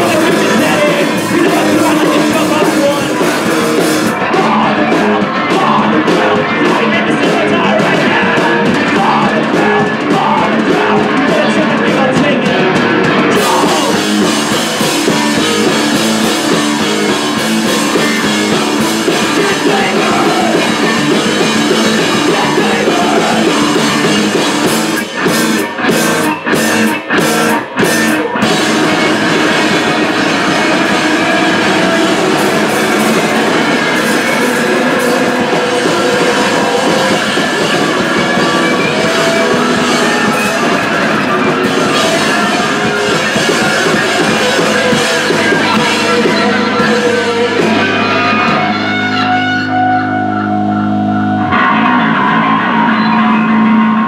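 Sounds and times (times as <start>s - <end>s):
rock band playing loud: 0.0s - 54.0s.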